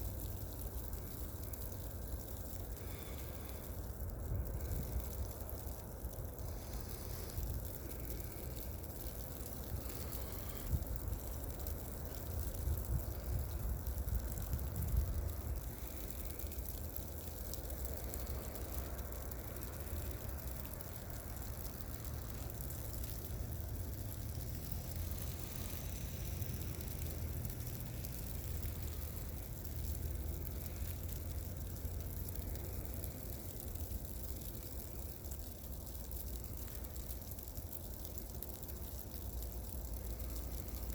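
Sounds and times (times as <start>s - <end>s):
tyres on snowy road: 0.0s - 40.9s.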